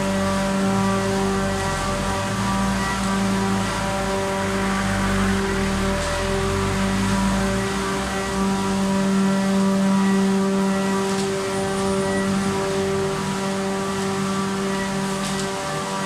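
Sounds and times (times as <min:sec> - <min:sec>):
machinery noise: 0:00.0 - 0:16.0.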